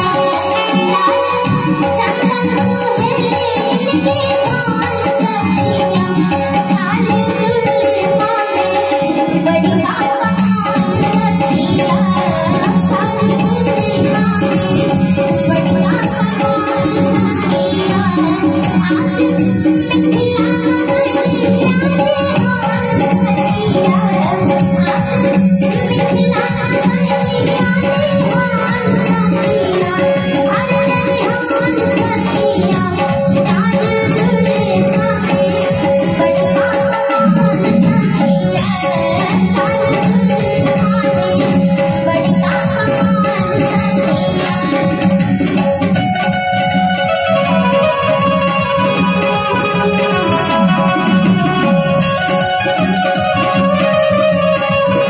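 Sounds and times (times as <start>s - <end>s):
fast rattling percussion: 0.0s - 55.0s
live band music: 0.0s - 55.0s
woman singing: 0.0s - 55.0s.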